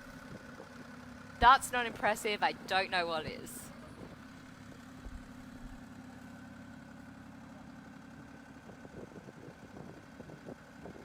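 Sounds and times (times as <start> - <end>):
tractor engine running at low revs: 0.0 - 11.0.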